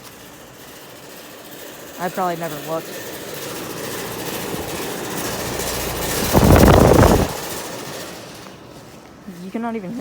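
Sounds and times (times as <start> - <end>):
air conditioner unit rattling: 0.0 - 10.0.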